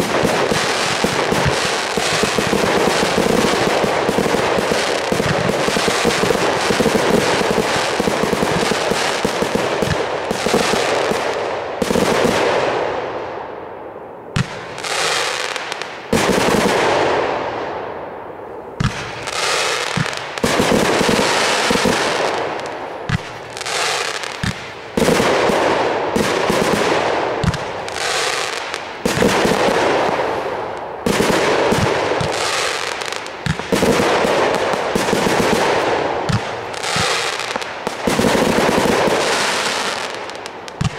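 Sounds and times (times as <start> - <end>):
fireworks crackle: 0.0 - 12.4, 18.8 - 40.9
fireworks bangs: 0.0 - 13.1, 14.4 - 17.8, 18.8 - 40.9.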